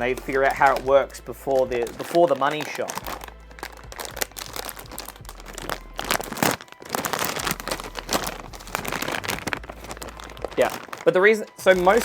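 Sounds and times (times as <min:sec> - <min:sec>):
cardboard scraping: 0:00.0 - 0:12.0
packaging crinkling and rustling: 0:00.0 - 0:12.0.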